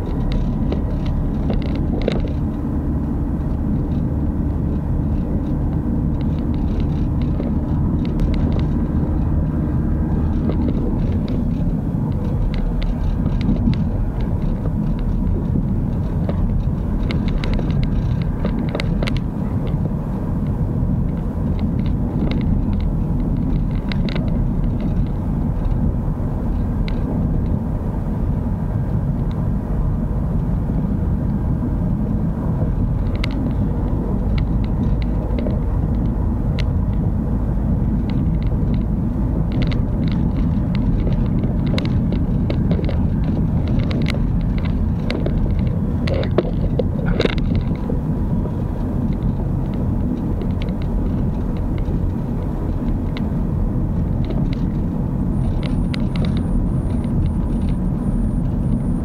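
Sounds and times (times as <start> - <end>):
light clicks and rattles: 0.0 - 59.0
vehicle rumbling on road: 0.0 - 59.0.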